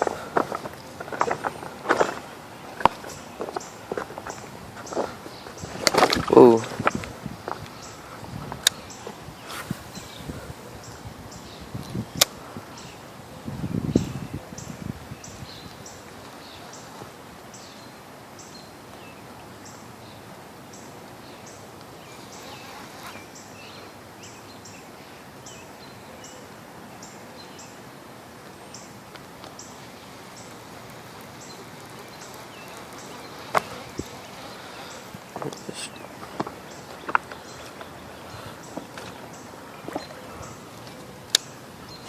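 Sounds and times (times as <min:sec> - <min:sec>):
wind at a pond: 0:00.0 - 0:42.0.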